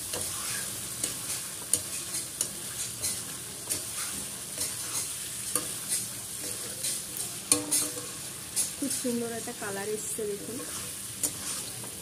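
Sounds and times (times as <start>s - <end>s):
spatula scraping a pan: 0.0s - 9.2s, 10.4s - 12.0s
chicken sizzling in oil: 0.0s - 12.0s.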